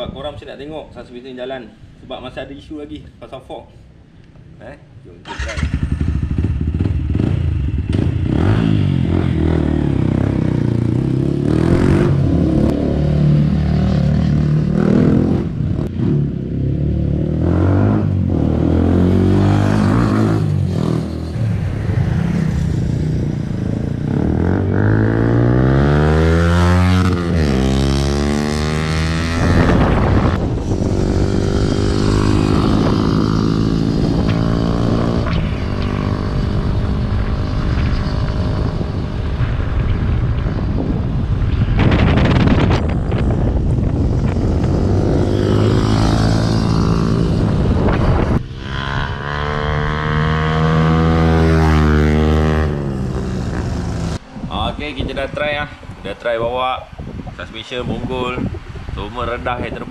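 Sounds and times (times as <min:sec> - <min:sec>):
motorcycle engine revving: 0:05.3 - 0:54.2.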